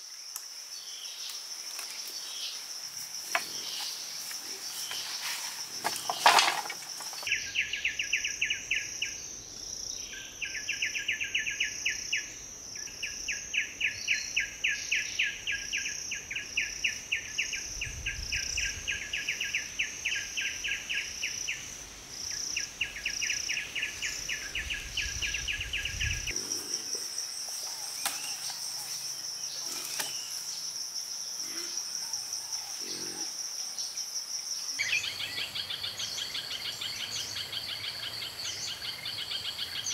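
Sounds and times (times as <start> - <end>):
insects pulsing chirp: 0.0 - 39.9.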